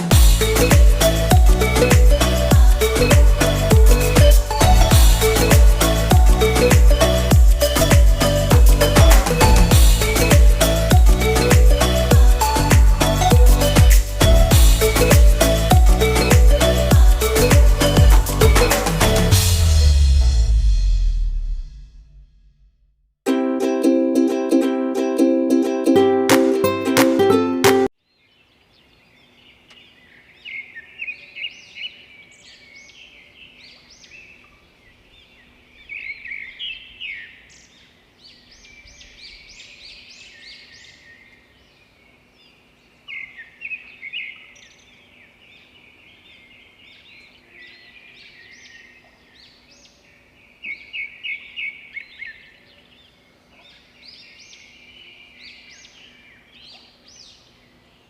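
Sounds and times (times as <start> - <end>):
birds singing and chirping: 0.0 - 19.3, 28.2 - 58.0.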